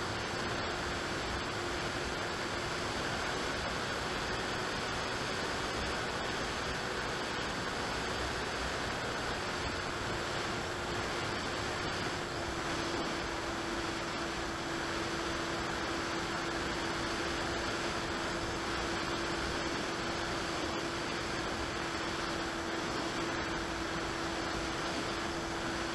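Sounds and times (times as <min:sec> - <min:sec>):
electric motor and propeller hum: 0:00.0 - 0:25.9.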